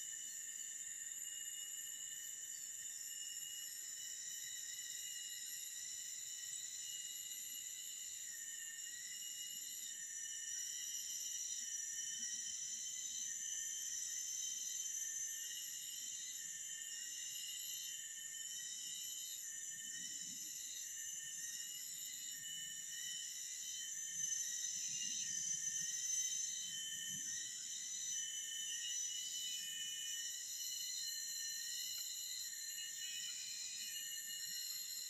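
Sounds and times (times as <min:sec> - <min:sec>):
insect chorus: 0:00.0 - 0:35.0
pulsing insect tone: 0:00.0 - 0:35.0.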